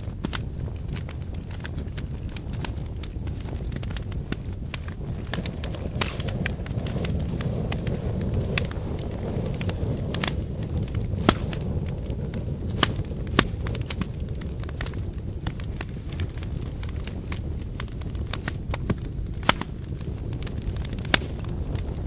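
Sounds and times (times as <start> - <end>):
campfire crackling and popping: 0.0 - 22.0
low rush of flame: 0.0 - 22.0.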